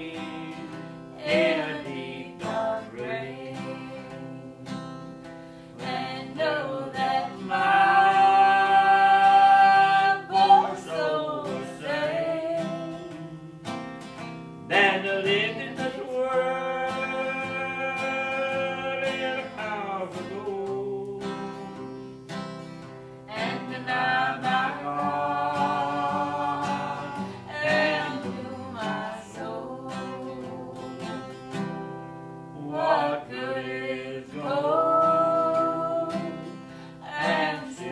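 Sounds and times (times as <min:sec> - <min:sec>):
man and woman singing: 0:00.0 - 0:13.8, 0:14.7 - 0:22.2, 0:23.3 - 0:31.9, 0:32.5 - 0:37.9
acoustic guitar strumming chords: 0:00.0 - 0:37.9.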